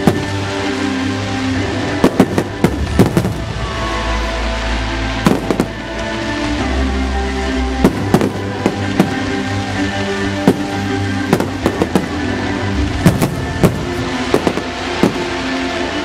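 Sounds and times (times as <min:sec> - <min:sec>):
fireworks bangs: 0:00.0 - 0:06.2, 0:07.7 - 0:16.0
loud music: 0:00.0 - 0:16.0.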